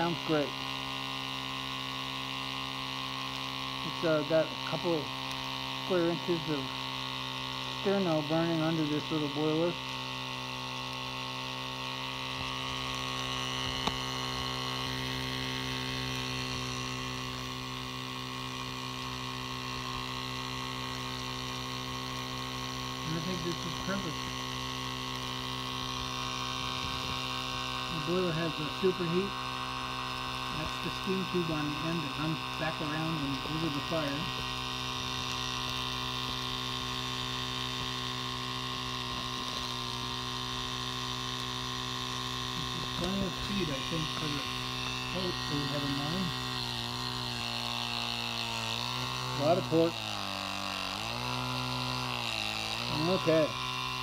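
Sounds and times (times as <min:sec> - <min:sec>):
model steam engine humming: 0:00.0 - 0:54.0.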